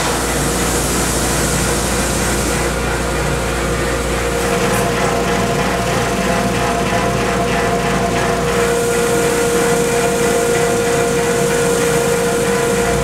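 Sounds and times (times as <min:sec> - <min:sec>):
drum sander humming: 0:00.0 - 0:13.0.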